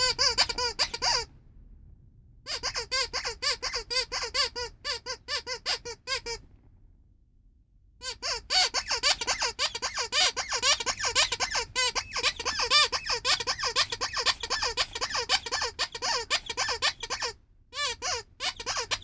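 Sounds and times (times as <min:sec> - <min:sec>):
rubber squeaky toy squeaking: 0:00.0 - 0:01.3, 0:02.5 - 0:06.5, 0:08.0 - 0:19.0.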